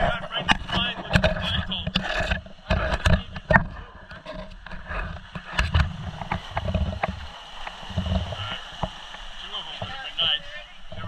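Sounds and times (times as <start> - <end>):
surf washing over rocks: 0.0 - 11.0
wind rumbling on microphone: 0.0 - 11.0.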